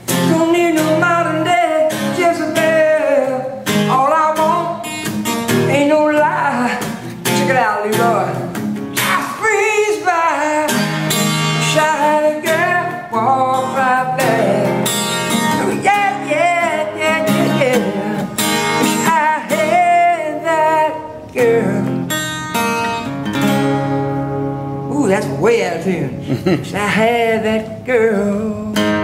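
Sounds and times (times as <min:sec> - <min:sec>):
acoustic guitar strumming: 0:00.0 - 0:29.0
man singing: 0:00.1 - 0:04.9, 0:05.6 - 0:22.2, 0:24.9 - 0:29.0.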